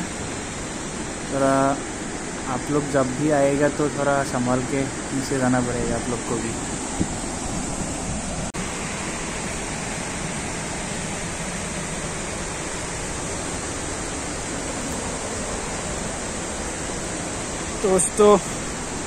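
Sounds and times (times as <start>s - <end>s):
waterfall and rapids rushing: 0.0s - 19.0s.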